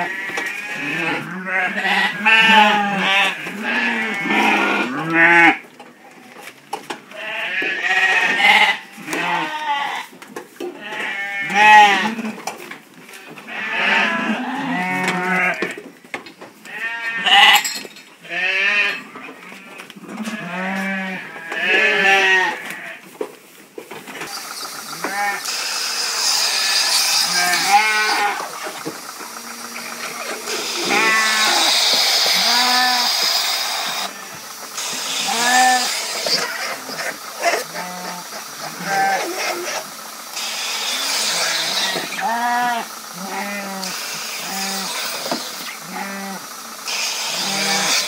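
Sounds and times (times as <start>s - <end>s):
sheep bleating: 0.0s - 6.5s, 7.1s - 10.1s, 10.8s - 12.4s, 13.1s - 15.8s, 16.7s - 17.6s, 18.2s - 23.0s, 24.8s - 39.9s, 40.9s - 46.6s, 47.2s - 48.0s.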